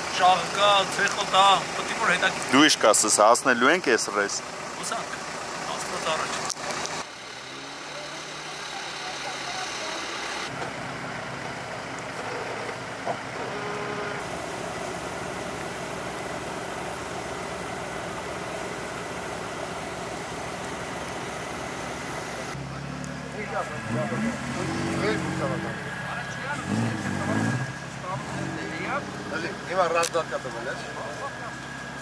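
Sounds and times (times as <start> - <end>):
vehicle engines idling: 0.0 - 32.0.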